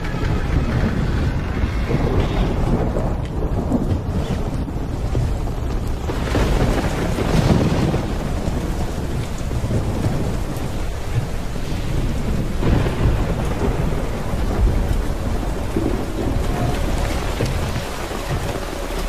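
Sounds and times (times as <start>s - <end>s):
heavy rain pouring: 0.0s - 19.0s
thunder rumbling: 0.0s - 19.0s.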